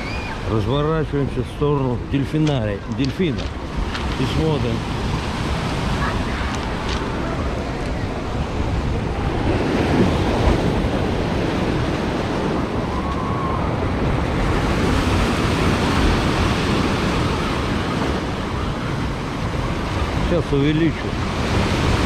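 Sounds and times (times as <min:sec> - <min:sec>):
surf washing up pebble beach: 0:00.0 - 0:22.0.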